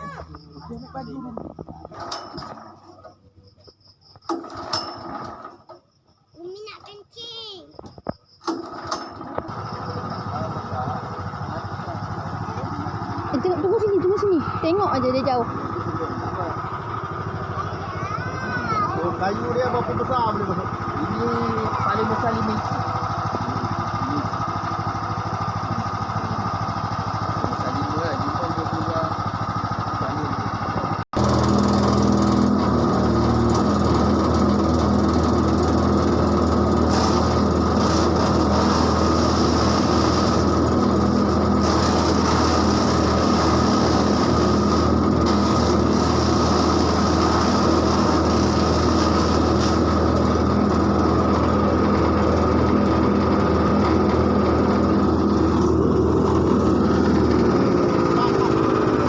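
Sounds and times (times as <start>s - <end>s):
wood chipper engine running: 0.0s - 59.0s.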